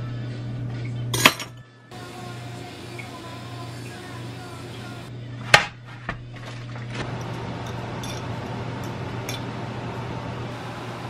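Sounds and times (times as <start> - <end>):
steady low hum: 1.9 - 11.0.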